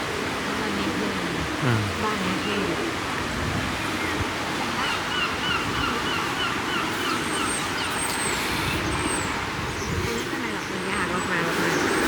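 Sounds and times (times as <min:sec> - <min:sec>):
surf wash: 0:00.0 - 0:12.0.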